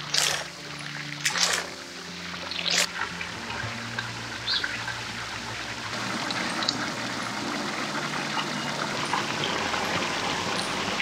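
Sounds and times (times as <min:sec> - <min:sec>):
fountain water splashing into basin: 0:00.0 - 0:11.0.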